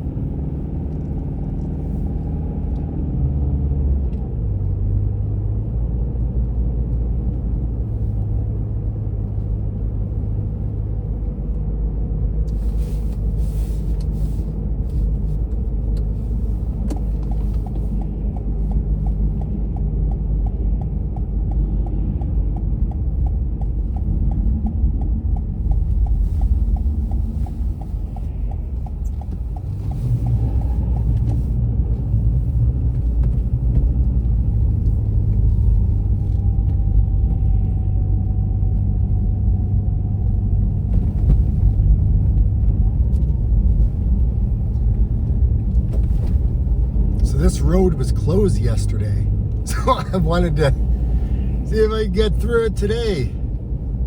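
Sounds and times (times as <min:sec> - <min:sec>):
tyres and engine rumble: 0:00.0 - 0:54.0.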